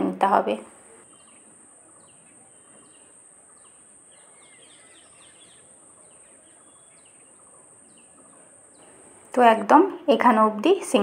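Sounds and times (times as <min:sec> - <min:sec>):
faint birds chirping: 0:00.0 - 0:11.0
steady high-pitched hiss: 0:00.0 - 0:11.0.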